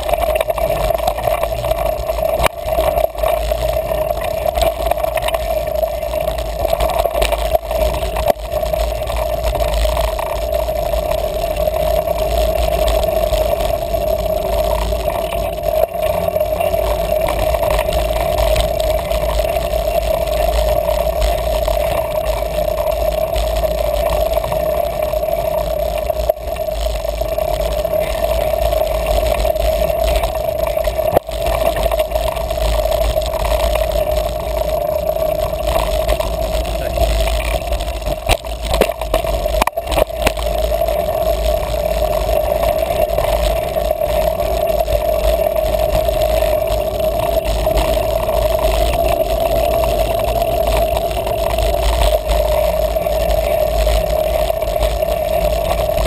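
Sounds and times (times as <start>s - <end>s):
mountain bike riding noise: 0.0s - 56.0s.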